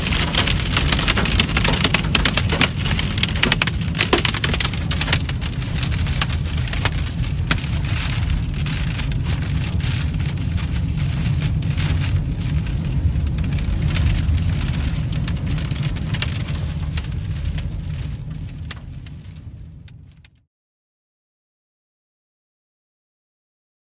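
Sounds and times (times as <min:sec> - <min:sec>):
heavy rain on vehicle roof: 0:00.0 - 0:20.3
low rumble: 0:00.0 - 0:20.4.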